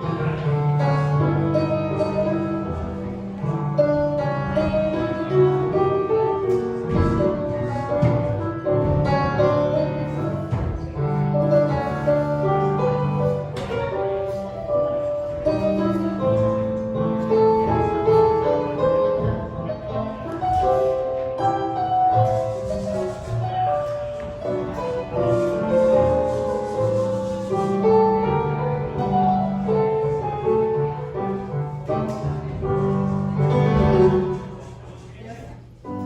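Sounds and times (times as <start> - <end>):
gentle piano instrumental: 0.0 - 36.0.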